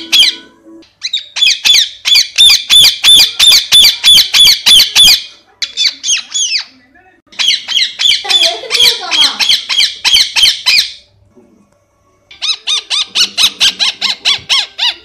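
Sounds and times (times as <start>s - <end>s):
parakeet squawking: 0.0s - 11.1s, 12.3s - 15.0s.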